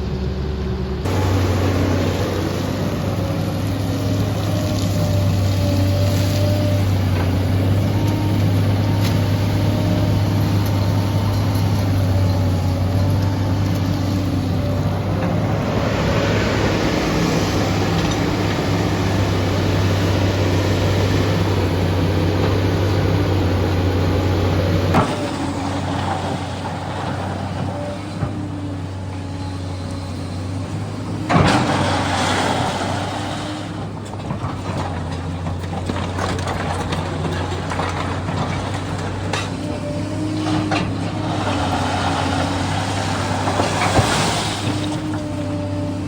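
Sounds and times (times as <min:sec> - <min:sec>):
excavator diesel engine droning: 0:00.0 - 0:46.0.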